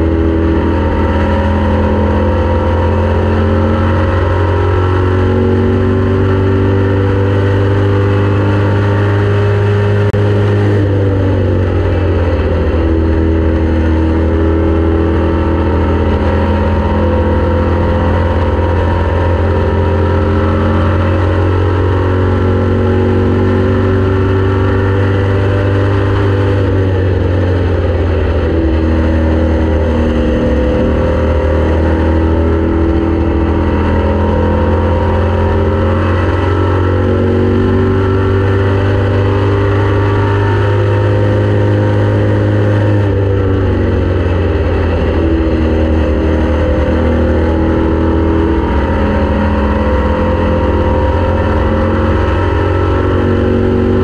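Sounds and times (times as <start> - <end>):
heavy low drone: 0.0 - 54.0
race car engine revving: 0.0 - 54.0.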